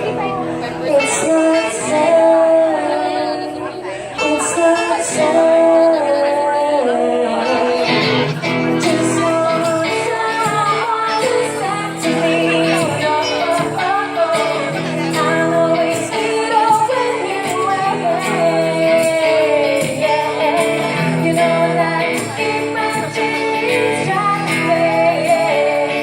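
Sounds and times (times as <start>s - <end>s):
acoustic guitar strumming: 0.0s - 26.0s
woman singing: 0.0s - 26.0s.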